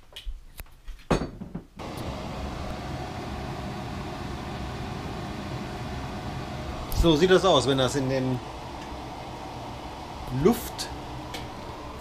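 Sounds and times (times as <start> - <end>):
air fryer fan whirring: 1.8 - 12.0.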